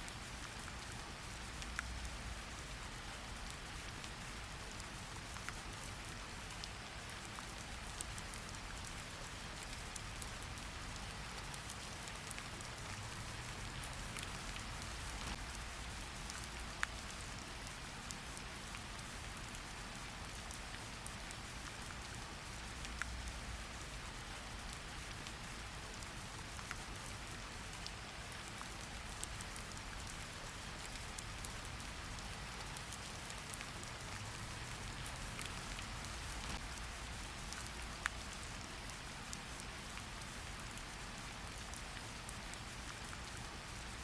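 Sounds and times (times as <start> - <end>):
steady rain hiss: 0.0 - 44.0
raindrops ticking close by: 0.1 - 44.0.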